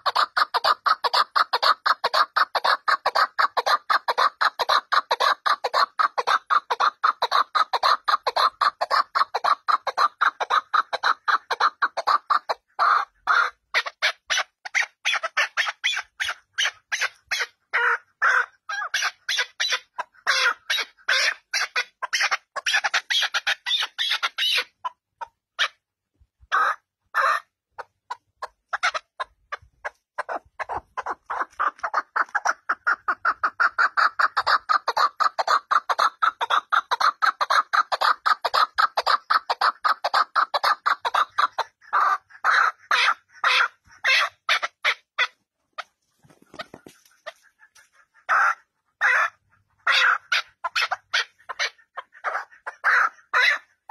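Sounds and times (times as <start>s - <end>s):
partridge calling: 0.0s - 25.8s, 26.4s - 53.9s.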